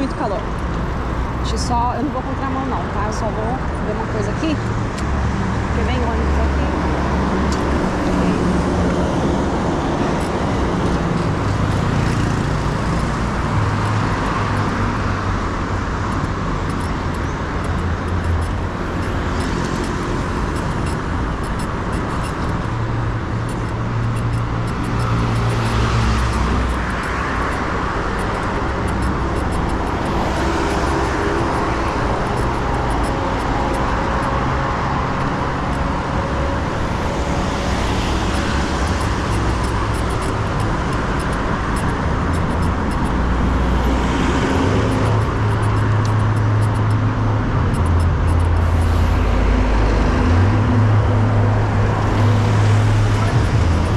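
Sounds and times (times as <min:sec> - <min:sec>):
cars and buses passing: 0:00.0 - 0:53.9
road noise rushing: 0:00.0 - 0:53.9.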